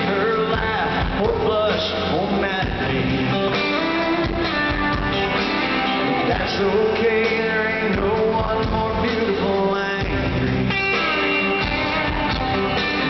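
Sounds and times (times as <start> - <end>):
electric guitars: 0.0 - 13.0
live country band through pa: 0.0 - 13.0.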